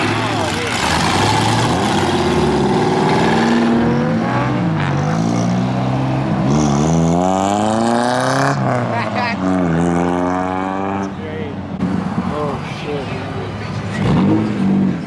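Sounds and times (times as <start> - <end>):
car engine revving: 0.0 - 11.2, 11.8 - 15.0.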